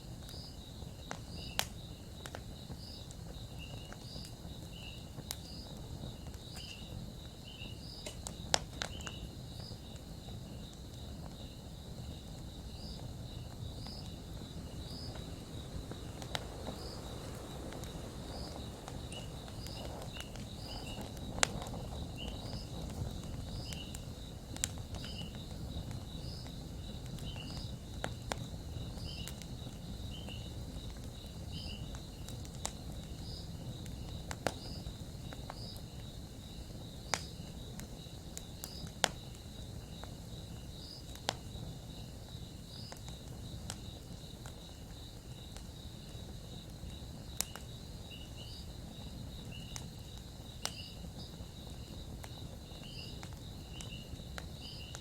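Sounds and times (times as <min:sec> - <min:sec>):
campfire crackling and popping: 0:00.0 - 0:55.0
insects chirping: 0:00.0 - 0:55.0.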